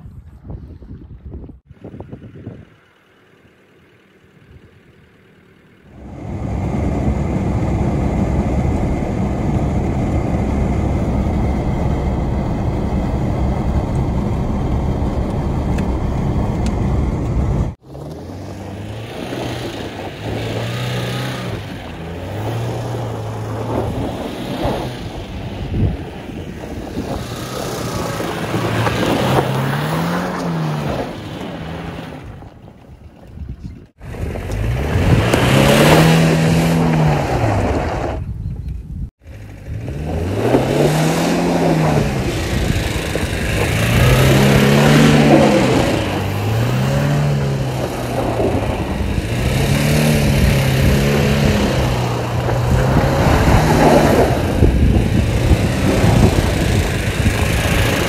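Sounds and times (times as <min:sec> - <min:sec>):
wind and road noise: 0:00.0 - 0:58.0
car engine revving: 0:03.8 - 0:32.4, 0:34.0 - 0:38.2, 0:39.2 - 0:58.0.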